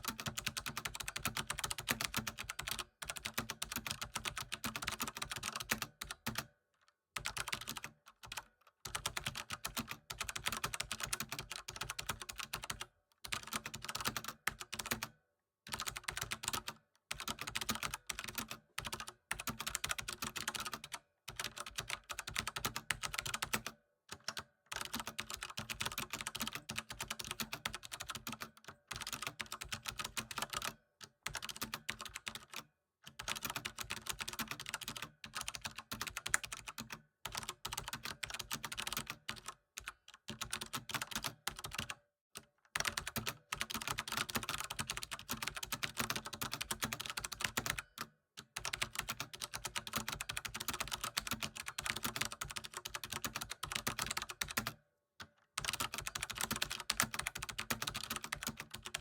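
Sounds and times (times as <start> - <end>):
typing on computer keyboard: 0.0 - 6.6, 7.2 - 59.0.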